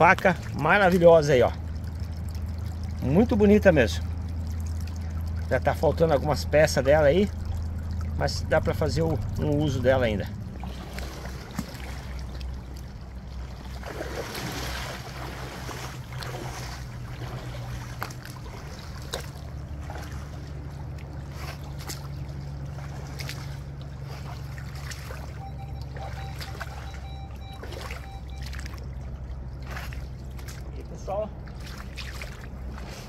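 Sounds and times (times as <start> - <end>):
stream flowing: 0.0 - 33.0
water sloshing around boots: 0.0 - 33.0.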